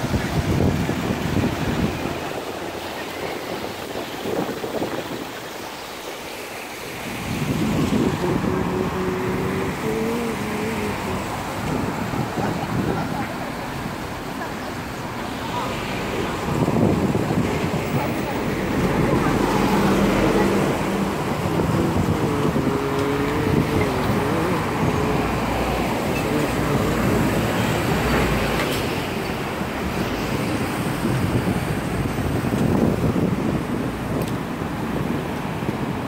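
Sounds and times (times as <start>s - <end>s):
passing cars and tyre noise: 0.0s - 36.0s.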